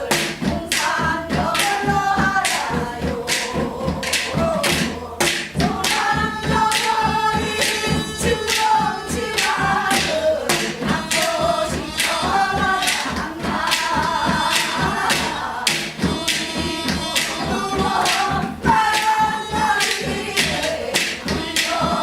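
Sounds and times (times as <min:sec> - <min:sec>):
folk singing with wavering notes: 0:00.0 - 0:22.0
sharp percussive strokes: 0:00.0 - 0:22.0.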